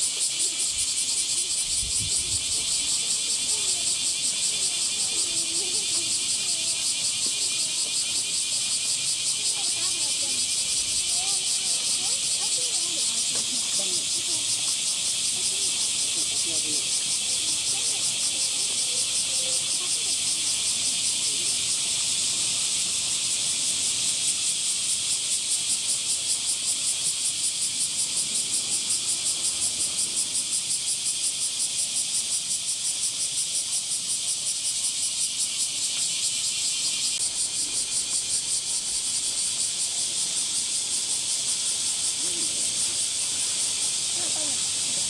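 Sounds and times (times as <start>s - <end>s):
cicadas buzzing: 0.0s - 45.0s.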